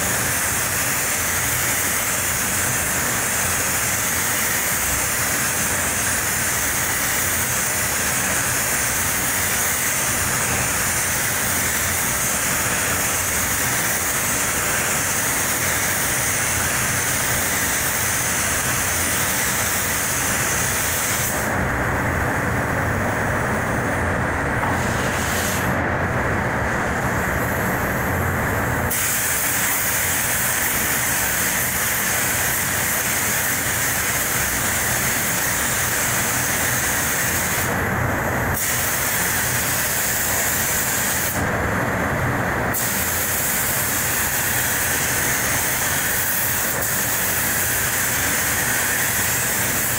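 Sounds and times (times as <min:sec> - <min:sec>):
spray booth air rushing: 0:00.0 - 0:49.9
spray gun air hiss: 0:00.0 - 0:49.9.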